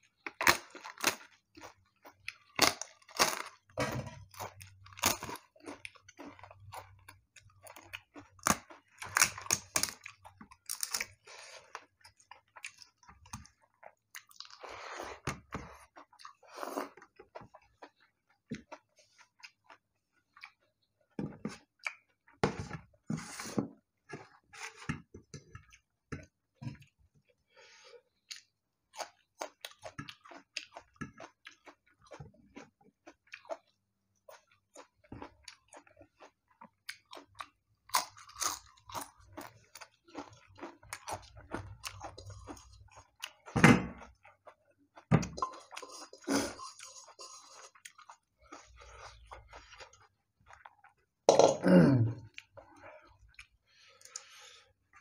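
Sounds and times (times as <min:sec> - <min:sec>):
soft chewing: 0:00.0 - 0:51.3, 0:52.1 - 0:55.0.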